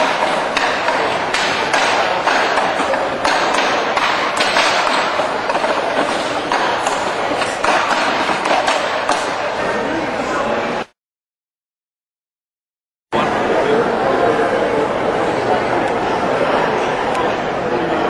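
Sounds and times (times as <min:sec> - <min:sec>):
background noise: 0:00.0 - 0:10.9, 0:13.2 - 0:18.0.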